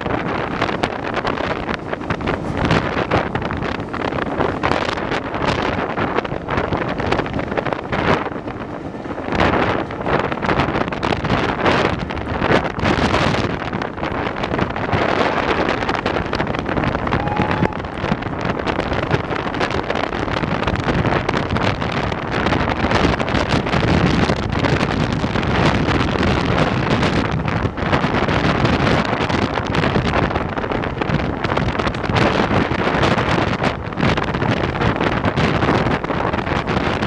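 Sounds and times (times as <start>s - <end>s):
train rumbling along tracks: 0.0s - 37.0s
wind noise on microphone: 0.0s - 37.0s.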